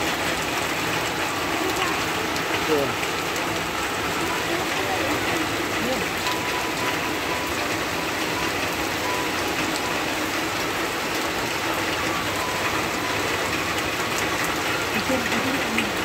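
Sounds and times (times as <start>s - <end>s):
heavy rain on wet road: 0.0s - 16.0s.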